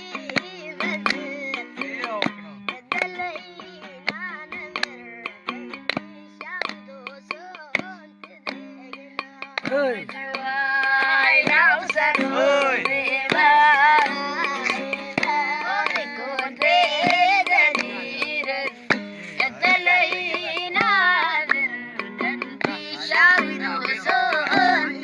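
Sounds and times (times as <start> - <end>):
sharp percussive notes: 0.0 - 25.0.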